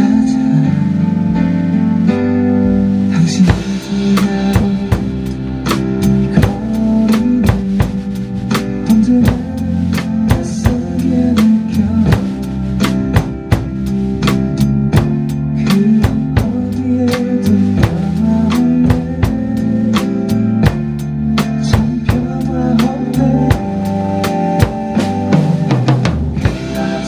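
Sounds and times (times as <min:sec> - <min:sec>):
drum kit playing a steady beat: 0:00.0 - 0:27.0
worship song backing track: 0:00.0 - 0:27.0.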